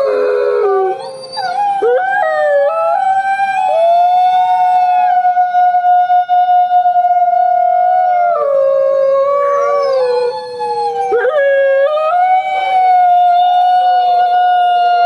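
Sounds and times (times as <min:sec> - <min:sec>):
wolf howling: 0:00.0 - 0:15.0.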